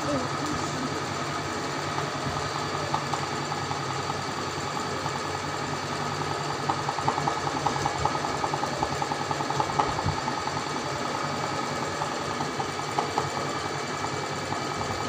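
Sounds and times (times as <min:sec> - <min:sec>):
sewing machine motor hum: 0:00.0 - 0:15.0.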